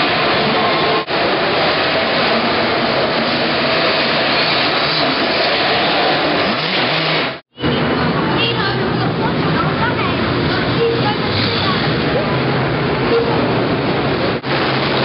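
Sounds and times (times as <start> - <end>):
motocross bike engines whining: 0.0 - 15.0.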